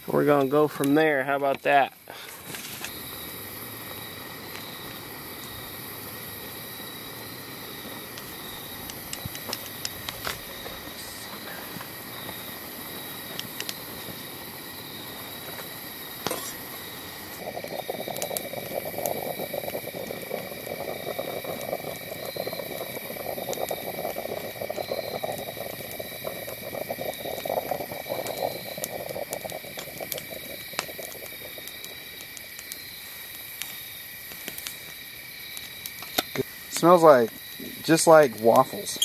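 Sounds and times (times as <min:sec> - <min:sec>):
coffee pot bubbling and gurgling: 0:00.0 - 0:39.0
insects trilling: 0:00.0 - 0:39.0.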